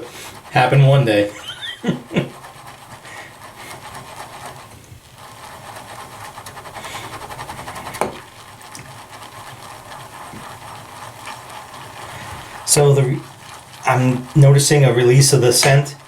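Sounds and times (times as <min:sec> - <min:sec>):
shaving brush swishing in bowl: 0:00.0 - 0:16.0.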